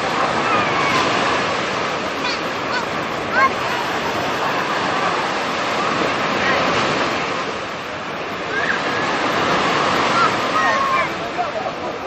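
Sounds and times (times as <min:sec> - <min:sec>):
faint voices: 0:00.0 - 0:07.2, 0:07.8 - 0:12.0
waves breaking on beach: 0:00.0 - 0:12.0.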